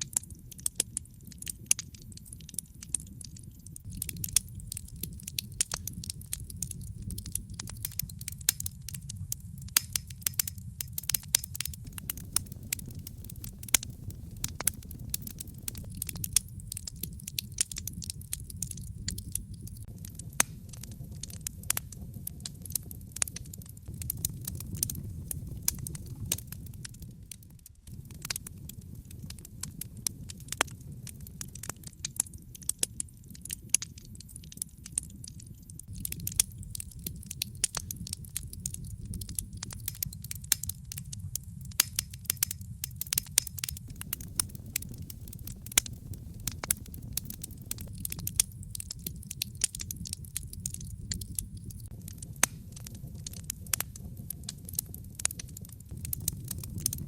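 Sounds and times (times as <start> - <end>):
low rumble of burning: 0.0 - 57.0
sharp pops and snaps: 0.0 - 57.0
wood fire crackling: 0.0 - 57.0.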